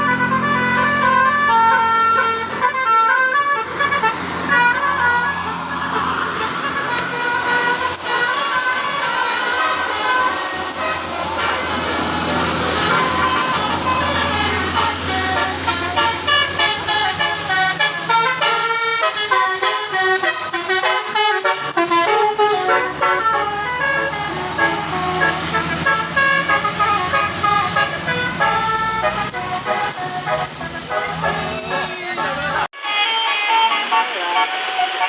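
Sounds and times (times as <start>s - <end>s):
bus air horn melody: 0.0s - 35.0s
bus engine hum: 0.0s - 35.0s.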